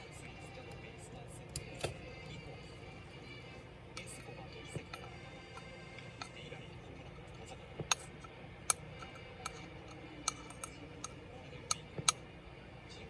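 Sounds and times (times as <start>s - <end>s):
small parts and tools clicking: 0.0s - 12.2s.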